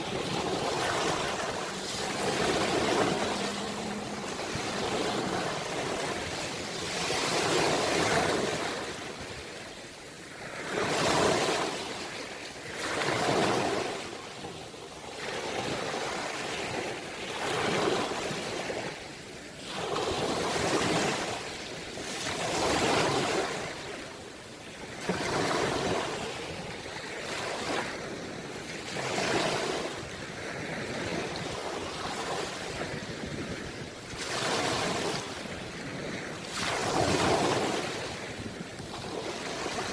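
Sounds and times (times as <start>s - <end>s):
ocean waves breaking ashore: 0.0s - 39.9s.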